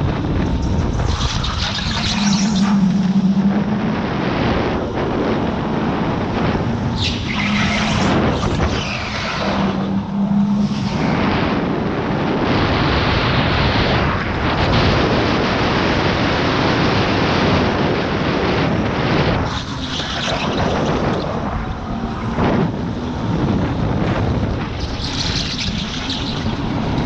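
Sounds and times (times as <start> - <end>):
go-kart tyre and chassis noise: 0.0 - 27.0
steady low hum: 0.0 - 27.0
wind rushing on microphone: 0.0 - 27.0.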